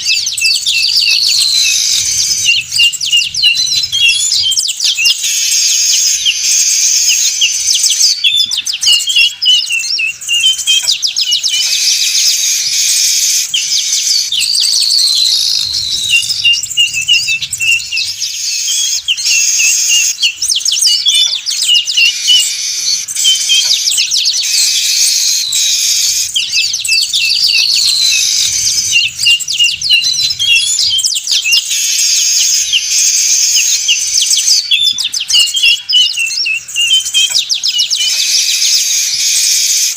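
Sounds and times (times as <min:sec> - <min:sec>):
weaver birds chattering: 0:00.0 - 0:39.9.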